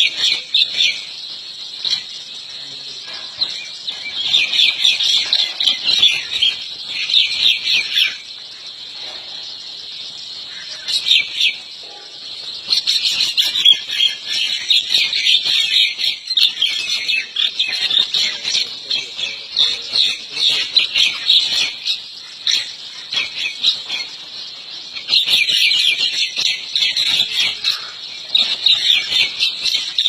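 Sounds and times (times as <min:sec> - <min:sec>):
birds chirping rapidly: 0:00.0 - 0:30.0.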